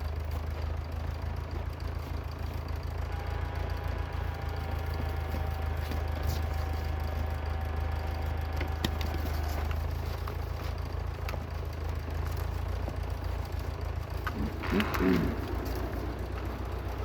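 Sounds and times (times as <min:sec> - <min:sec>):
car engine turning over: 0:00.0 - 0:17.0.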